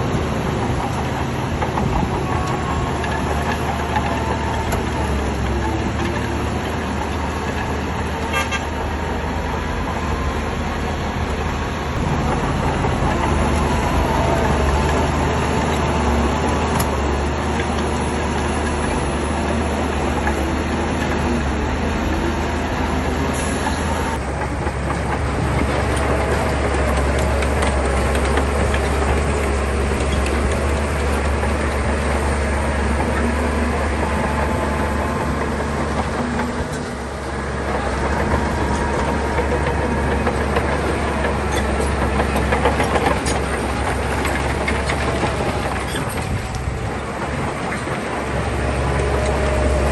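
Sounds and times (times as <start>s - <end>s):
bulldozer diesel engine running: 0.0s - 49.9s
steel tracks clattering and squealing: 0.0s - 49.9s.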